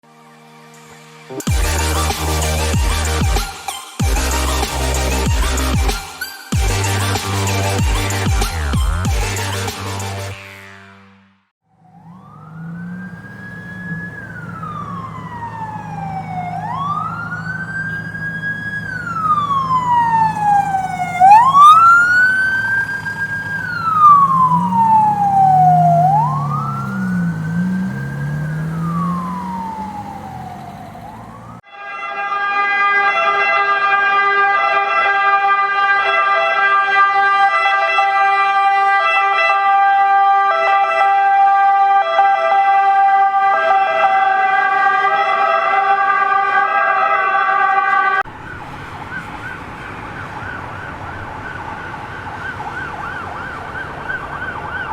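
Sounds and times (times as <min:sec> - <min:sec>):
emergency vehicle siren wailing: 0:01.0 - 0:10.4, 0:11.6 - 0:54.9.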